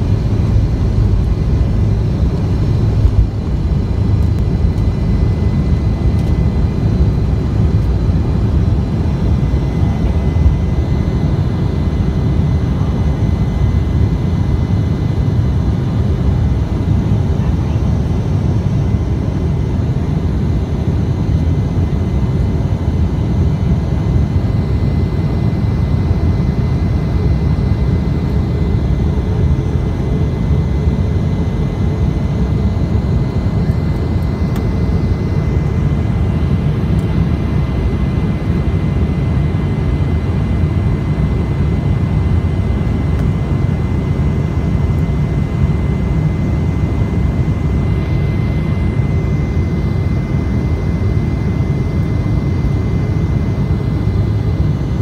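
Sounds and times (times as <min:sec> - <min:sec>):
high engine whine: 0:00.0 - 0:55.0
jet engine low rumble: 0:00.0 - 0:55.0.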